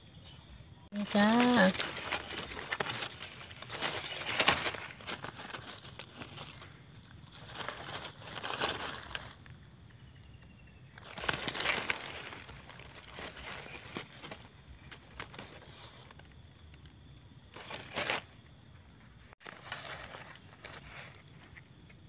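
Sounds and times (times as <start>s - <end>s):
dry grass and leaves rustling: 0.1s - 22.0s.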